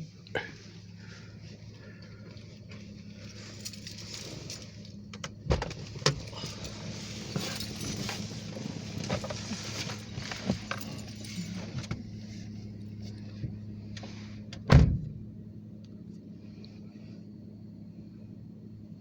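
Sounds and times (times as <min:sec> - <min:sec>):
low vehicle hum: 0:00.0 - 0:19.0.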